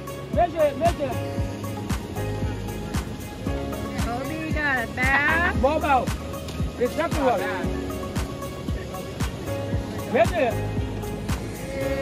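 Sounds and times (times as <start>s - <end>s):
music with kick drum beat: 0.0s - 12.0s.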